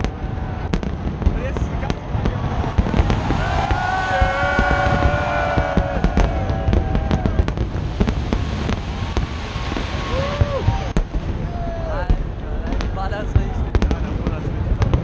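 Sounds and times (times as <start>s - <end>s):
fireworks banging and crackling: 0.0s - 15.0s
low rumble: 0.0s - 15.0s.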